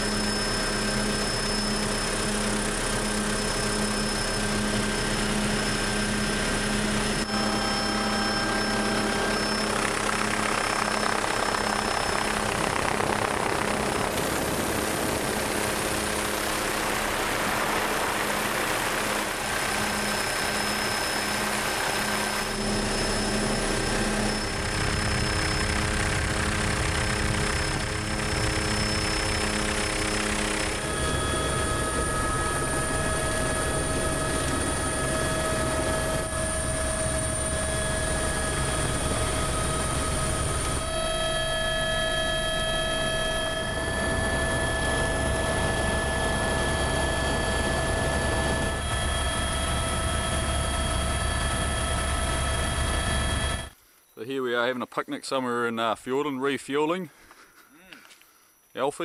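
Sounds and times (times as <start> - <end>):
helicopter turbine whine and rotors: 0.0 - 53.8.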